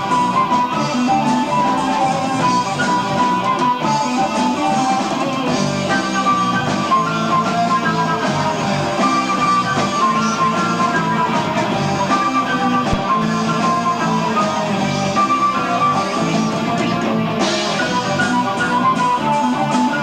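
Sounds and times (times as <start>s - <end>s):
lead guitar: 0.0s - 20.0s
rock band playing live: 0.0s - 20.0s.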